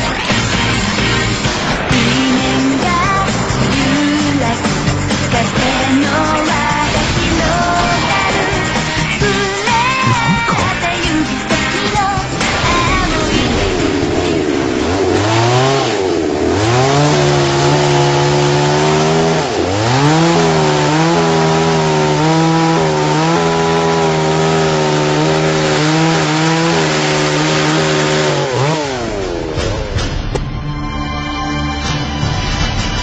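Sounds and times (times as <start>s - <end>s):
chainsaw cutting into log: 1.4s - 13.7s, 14.6s - 29.8s.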